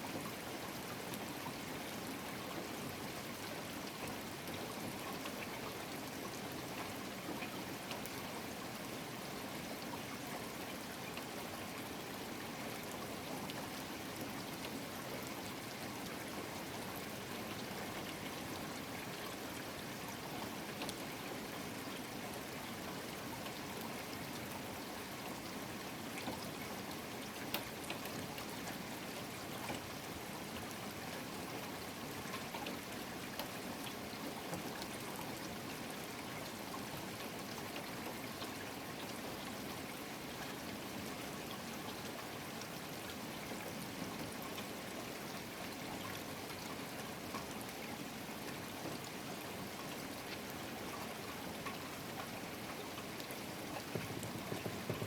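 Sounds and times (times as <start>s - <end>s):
rain hiss: 7.6s - 55.0s
water trickling: 9.6s - 55.0s.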